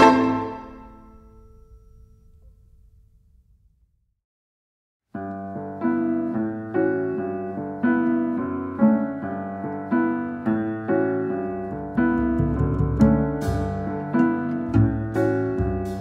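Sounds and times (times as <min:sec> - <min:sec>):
piano chords: 0:00.0 - 0:03.2, 0:05.2 - 0:16.0.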